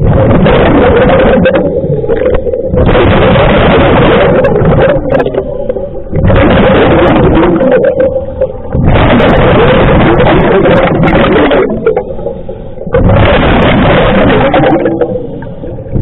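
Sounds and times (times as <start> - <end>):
steady hum: 0.0 - 16.0
underwater regulator bubbling exhalations: 0.0 - 16.0.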